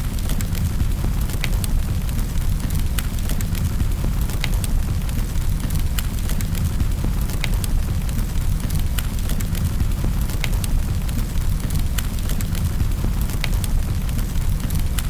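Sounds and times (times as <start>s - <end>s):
fire crackling: 0.0s - 15.0s.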